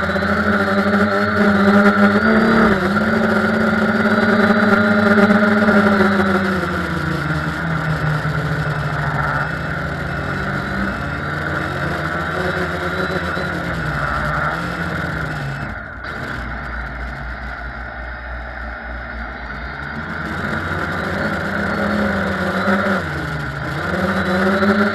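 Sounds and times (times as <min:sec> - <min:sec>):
drone propellers humming: 0:00.0 - 0:24.9.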